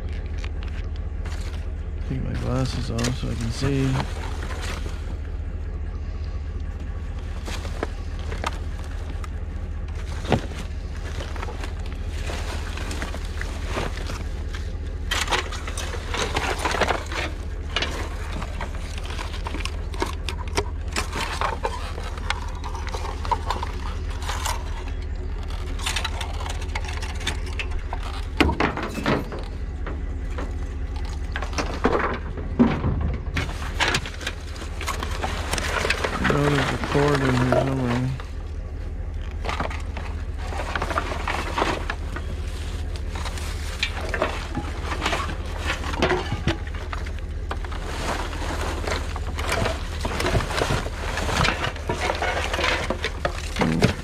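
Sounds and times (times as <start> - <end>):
low hum: 0.0 - 54.0
clanks of scrap metal: 7.4 - 38.3, 39.2 - 54.0.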